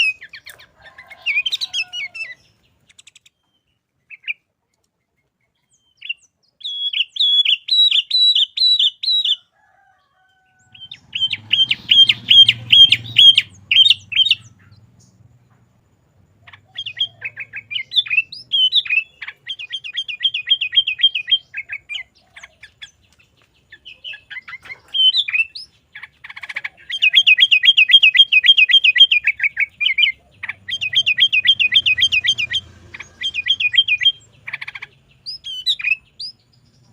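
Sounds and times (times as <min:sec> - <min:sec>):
bulbul chattering song: 0:00.0 - 0:09.4, 0:10.6 - 0:36.9.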